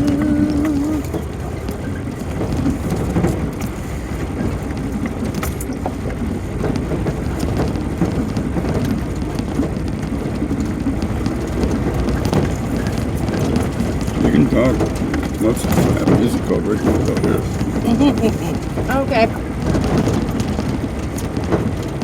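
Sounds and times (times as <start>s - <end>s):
gravel striking vehicle body: 0.0s - 22.0s
vehicle tyres and engine rumble: 0.0s - 22.0s.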